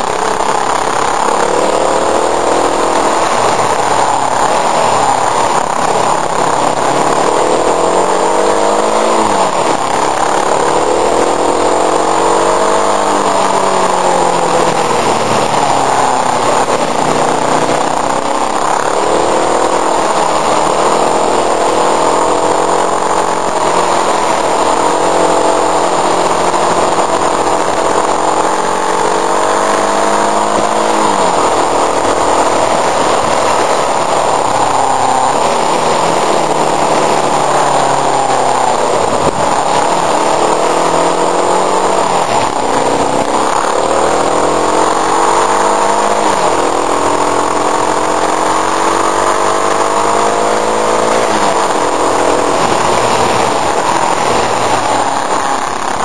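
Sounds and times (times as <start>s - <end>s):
motorcycle engine revving: 0.0s - 56.0s
wind rush on microphone: 0.0s - 56.0s.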